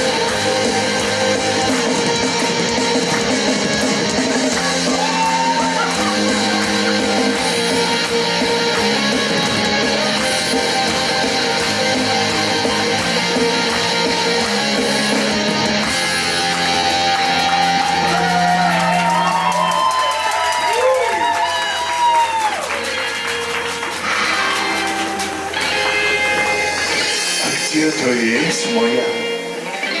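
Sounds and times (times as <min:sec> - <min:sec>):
instrumental pop backing track: 0:00.0 - 0:19.4, 0:22.8 - 0:30.0.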